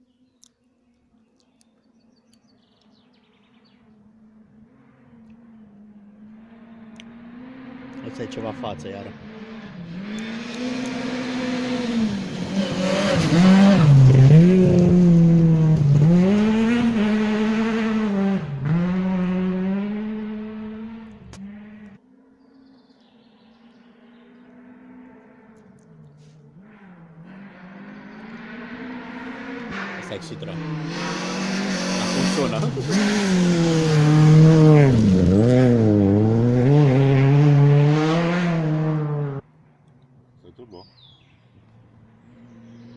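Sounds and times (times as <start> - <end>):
rally car engine passing: 3.7 - 39.6, 41.8 - 42.9.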